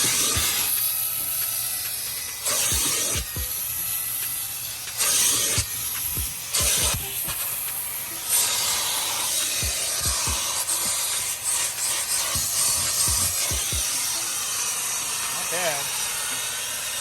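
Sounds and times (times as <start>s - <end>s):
vacuum suction hiss: 0.0s - 17.0s.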